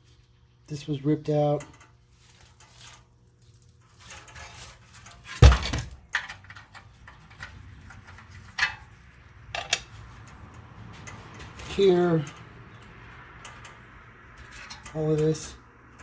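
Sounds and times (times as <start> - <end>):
metallic clicks and clatters: 1.6 - 16.0.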